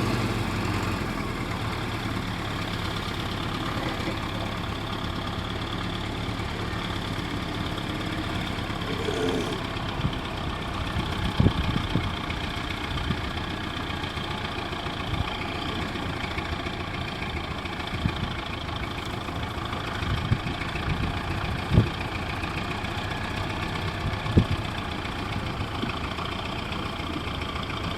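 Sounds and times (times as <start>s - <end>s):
heavy equipment engine running: 0.0s - 27.9s.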